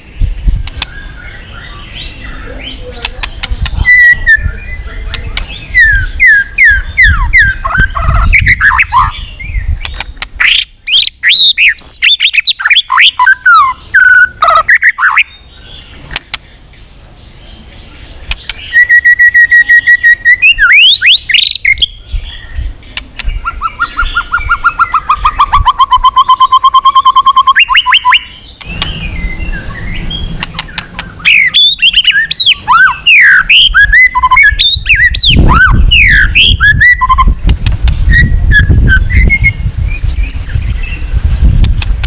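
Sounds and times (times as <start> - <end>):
bird singing whistles and trills: 0.0 - 2.9, 3.6 - 41.2.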